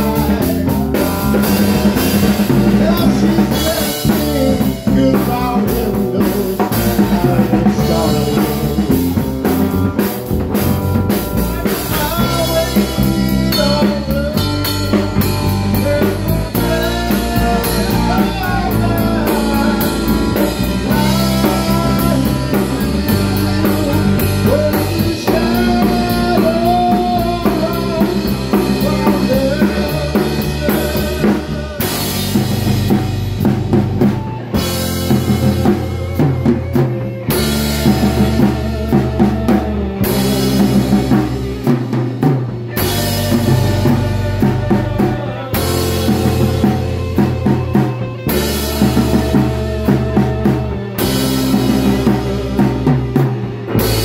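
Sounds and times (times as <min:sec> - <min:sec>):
drum kit beat: 0:00.0 - 0:54.0
electric guitars: 0:00.0 - 0:54.0
lead guitar bent notes: 0:00.0 - 0:54.0.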